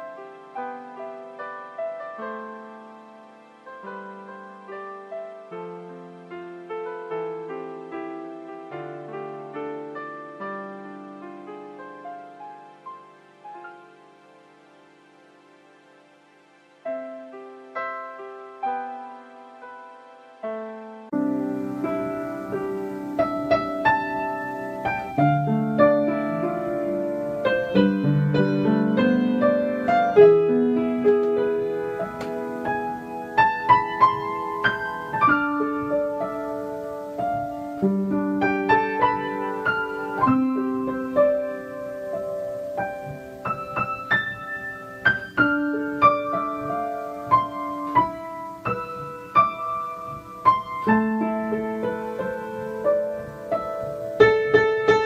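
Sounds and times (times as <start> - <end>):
slow piano piece: 0.0 - 55.0.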